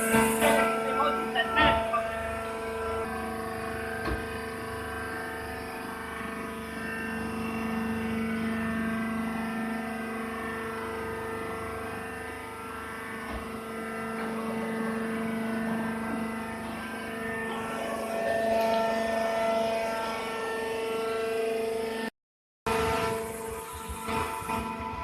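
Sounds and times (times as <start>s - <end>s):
hydraulic baling machine humming: 0.0s - 22.1s, 22.7s - 25.0s.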